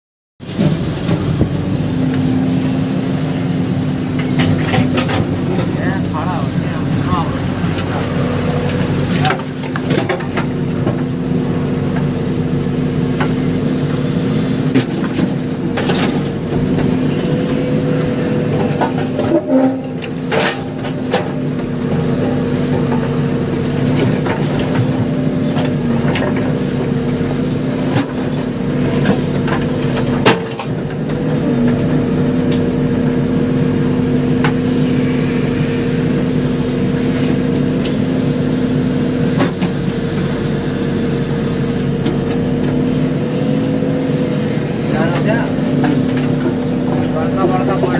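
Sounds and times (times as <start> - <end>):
diesel engine droning: 0.4 - 47.9.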